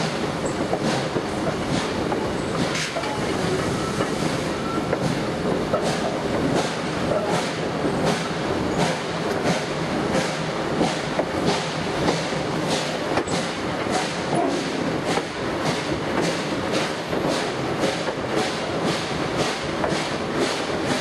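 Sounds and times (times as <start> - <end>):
steam locomotive exhaust beats: 0.0 - 21.0
train wheels rumbling on rails: 0.0 - 21.0.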